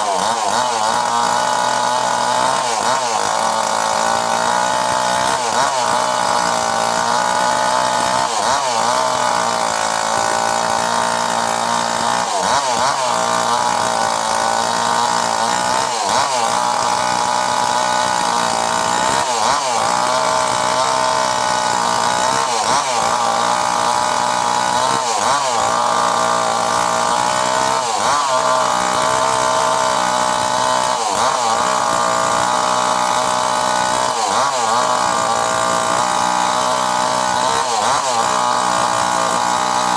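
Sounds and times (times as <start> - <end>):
mini chainsaw running: 0.0 - 39.9.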